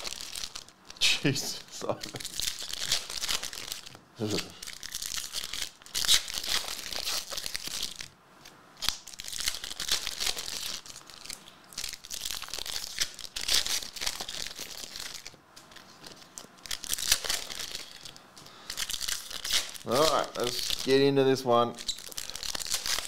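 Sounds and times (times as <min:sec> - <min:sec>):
foil wrappers tearing and crinkling: 0:00.0 - 0:01.2, 0:02.1 - 0:08.1, 0:08.8 - 0:21.2, 0:21.8 - 0:23.0.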